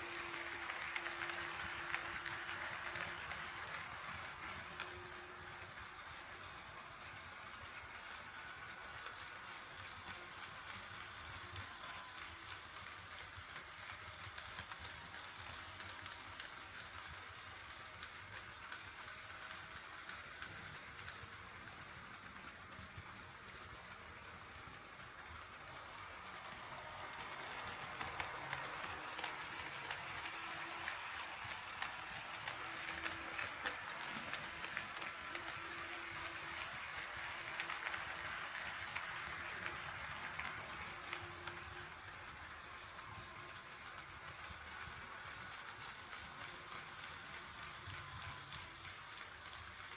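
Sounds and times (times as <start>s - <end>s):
model train rolling rattle: 0.0s - 49.9s.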